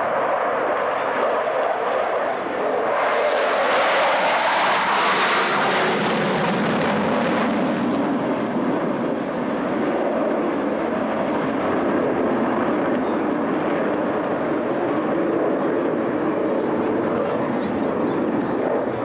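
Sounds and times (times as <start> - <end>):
fighter jets roaring: 0.0 - 19.0.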